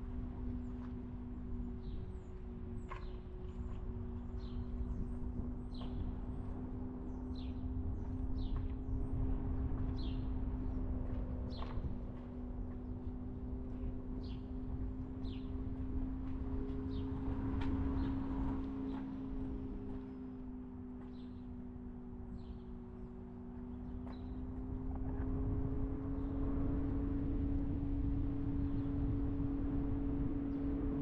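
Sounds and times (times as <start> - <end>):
car engine and road rumble: 0.0 - 31.0
low hum: 0.0 - 31.0.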